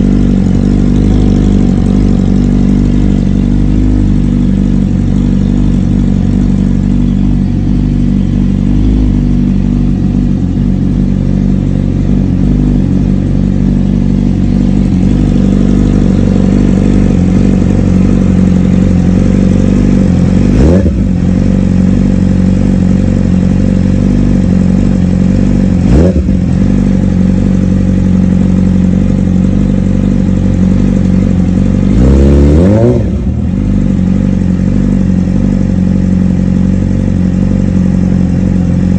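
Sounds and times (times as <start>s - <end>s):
motorcycle engine idling: 0.0s - 38.9s
motorcycle throttle revving: 0.0s - 38.9s.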